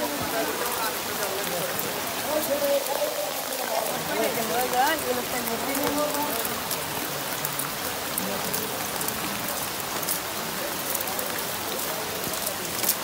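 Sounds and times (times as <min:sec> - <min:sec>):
small sharp water drips: 0:00.0 - 0:13.0
water pattering and splashing: 0:00.0 - 0:13.0.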